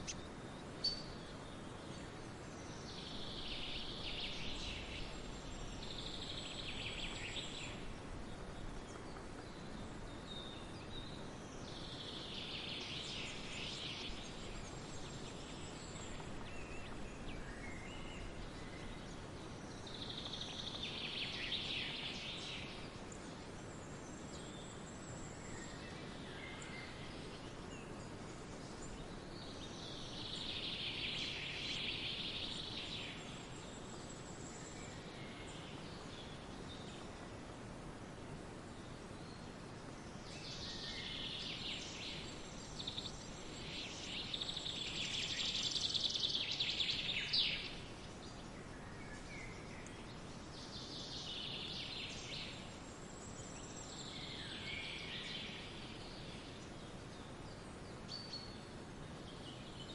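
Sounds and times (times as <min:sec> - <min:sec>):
songbirds chirping: 0:00.0 - 0:59.9
steady background hiss: 0:00.0 - 0:59.9.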